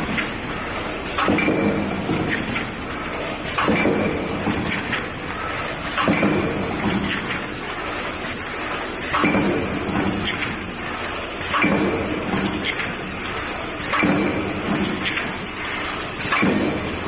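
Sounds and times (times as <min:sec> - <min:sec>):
machine knock and surge: 0:00.0 - 0:17.0.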